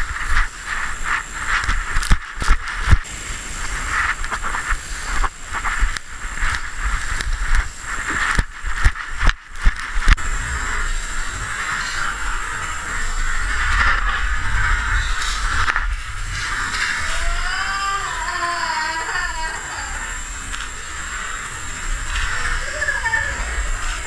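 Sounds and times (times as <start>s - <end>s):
low rumble: 0.0s - 24.0s
wind noise on camera: 0.0s - 24.0s.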